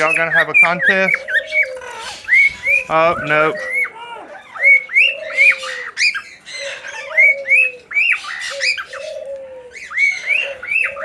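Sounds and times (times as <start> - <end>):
birds squawking chirps: 0.0 - 11.0
low dove coos: 0.0 - 11.0.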